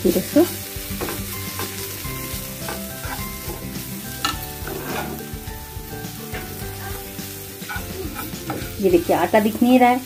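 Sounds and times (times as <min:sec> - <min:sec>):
soft sizzle: 0:00.0 - 0:10.0
spatula scraping a frying pan: 0:00.8 - 0:09.8.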